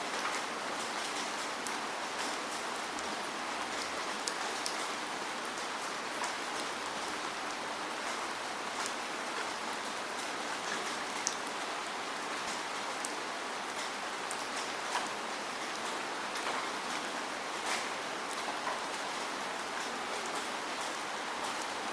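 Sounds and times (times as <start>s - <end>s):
raindrops tapping a surface: 0.1s - 21.9s.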